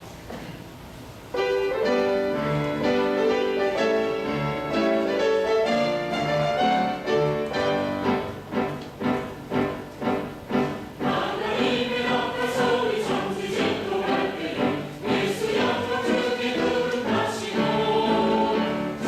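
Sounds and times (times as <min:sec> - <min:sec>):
low room noise: 0:00.0 - 0:19.0
piano sustained chords: 0:01.3 - 0:19.0.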